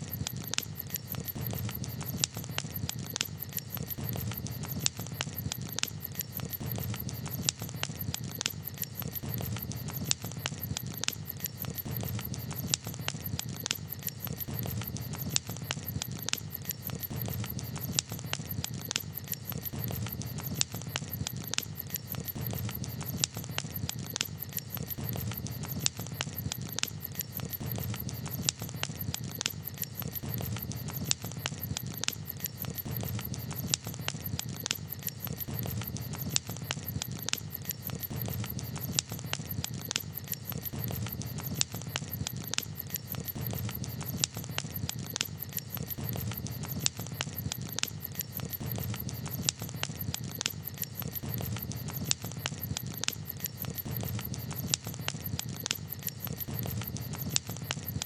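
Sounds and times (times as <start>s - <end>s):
campfire crackling and popping: 0.0s - 58.0s
low rumble of burning fire: 0.0s - 58.0s.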